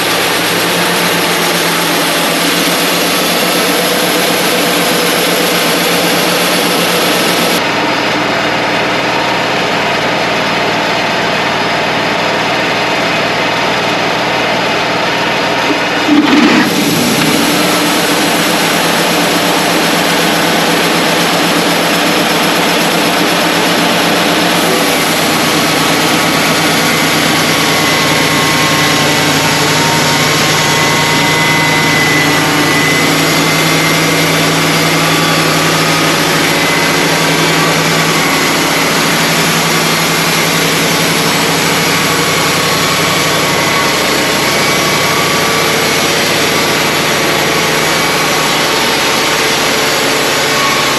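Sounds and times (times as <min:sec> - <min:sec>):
sawmill machine drone: 0:00.0 - 0:50.9.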